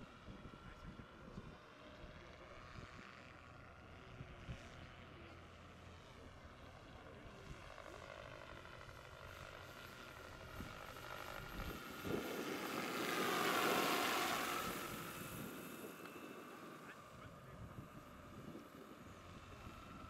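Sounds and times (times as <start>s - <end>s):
model helicopter rotor whine: 0.0s - 20.0s.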